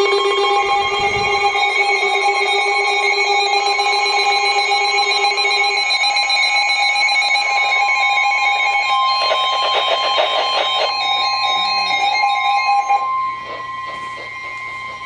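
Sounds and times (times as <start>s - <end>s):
electronic alarm tone: 0.0s - 15.0s.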